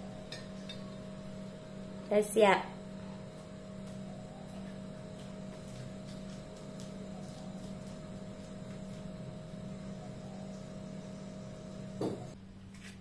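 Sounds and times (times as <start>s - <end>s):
appliance electrical hum: 0.0s - 13.0s.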